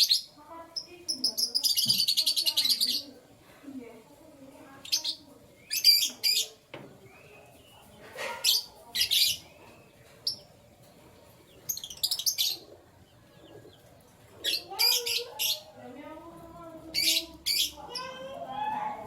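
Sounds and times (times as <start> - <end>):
canaries chirping: 0.0 - 19.0.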